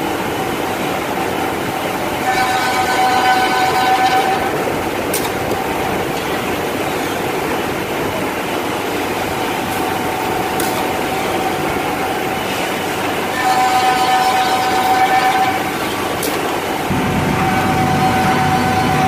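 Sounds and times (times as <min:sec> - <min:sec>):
thin machine whine: 0:00.0 - 0:19.0
mortising machine running: 0:01.0 - 0:19.0.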